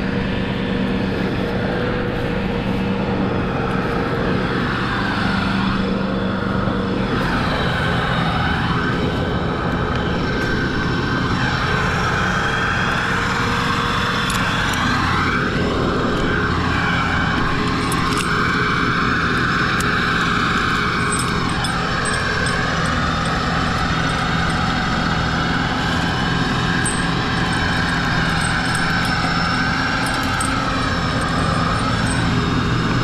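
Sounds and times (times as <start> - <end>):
large engine running: 0.0 - 33.0.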